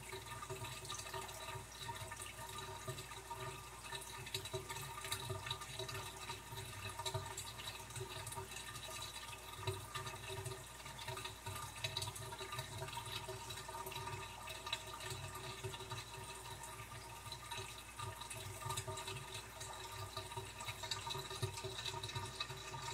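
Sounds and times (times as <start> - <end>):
aquarium water trickling: 0.0 - 22.9.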